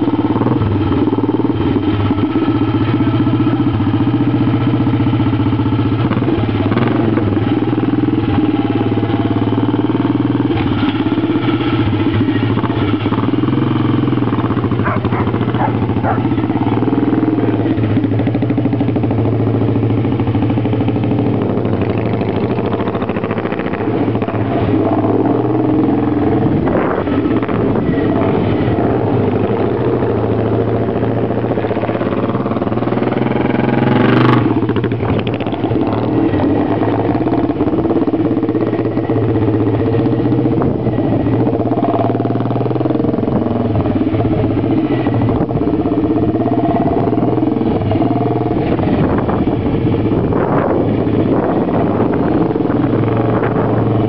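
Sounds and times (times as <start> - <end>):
motorcycle racing engine running: 0.0 - 54.0.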